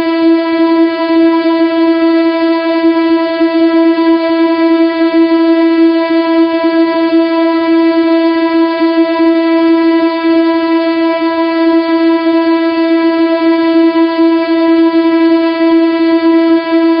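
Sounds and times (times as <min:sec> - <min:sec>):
loud steady tone: 0:00.0 - 0:17.0.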